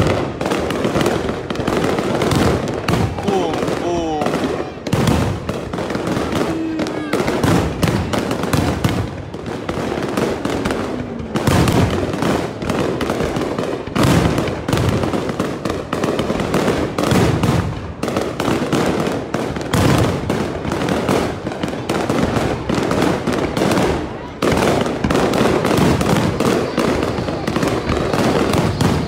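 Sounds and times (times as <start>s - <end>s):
firework booms: 0.0s - 29.0s
fireworks bangs and pops: 0.0s - 29.0s.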